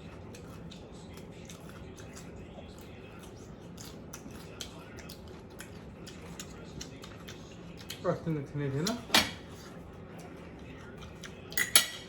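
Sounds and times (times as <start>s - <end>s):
crunching and chewing: 0.0s - 11.6s.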